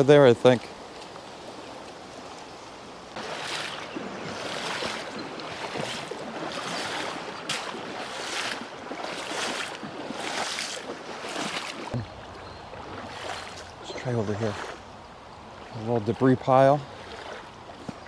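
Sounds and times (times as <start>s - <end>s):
wading through creek water: 0.0s - 18.0s.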